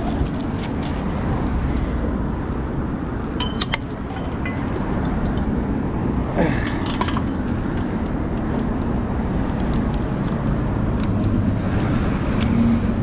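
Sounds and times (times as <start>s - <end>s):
metallic clinks and rattles: 0.0s - 11.2s
road rumble: 0.0s - 13.0s.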